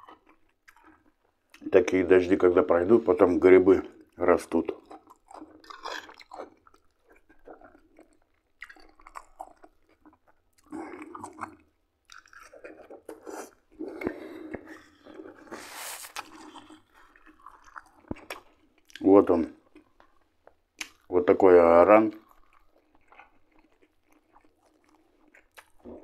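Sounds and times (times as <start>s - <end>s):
close-up chewing: 0.0s - 1.8s, 2.9s - 26.0s.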